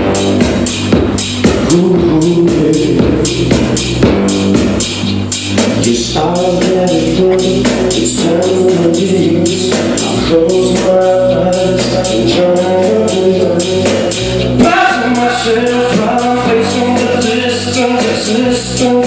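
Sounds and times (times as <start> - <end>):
live band playing: 0.0 - 19.0
quick steady drum beat: 0.0 - 19.0
person singing: 1.5 - 4.2, 5.8 - 19.0.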